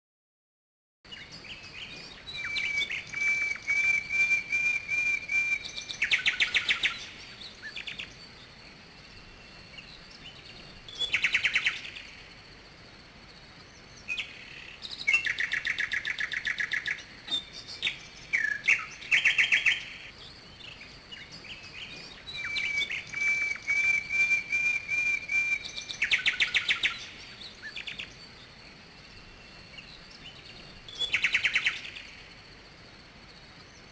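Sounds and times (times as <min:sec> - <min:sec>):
birds chirping and trilling: 0:01.1 - 0:33.9
faint steady hiss: 0:01.1 - 0:33.9.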